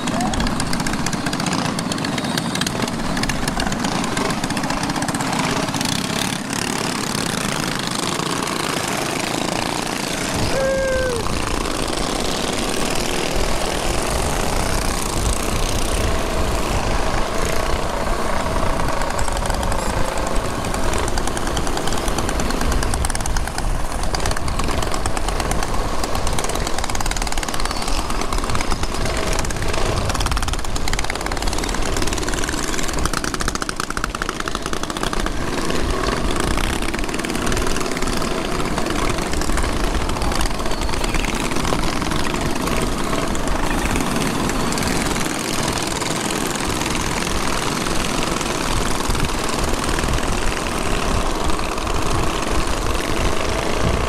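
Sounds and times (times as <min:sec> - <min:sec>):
mini bike engines running: 0:00.0 - 0:54.0
wind rushing over microphone: 0:09.2 - 0:54.0.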